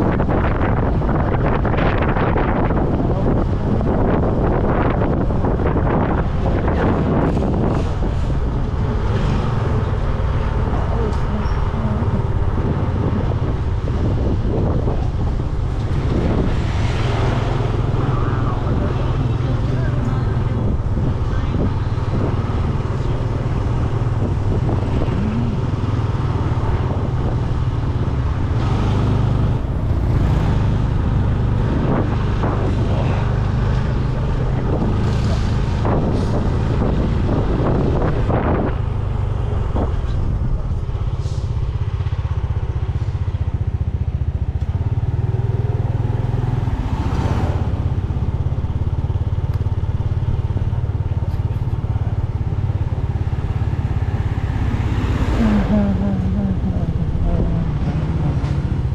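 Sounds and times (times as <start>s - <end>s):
motorbike engine cruising: 0.0s - 58.9s.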